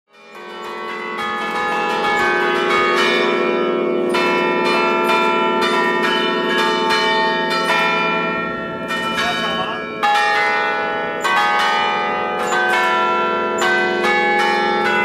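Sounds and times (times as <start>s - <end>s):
church bells ringing: 0.1s - 15.0s.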